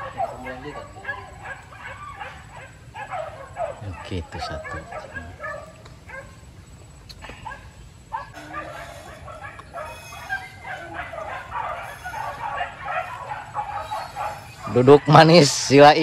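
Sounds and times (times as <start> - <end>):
dogs yipping and whining: 0.0 - 6.5, 7.3 - 15.9.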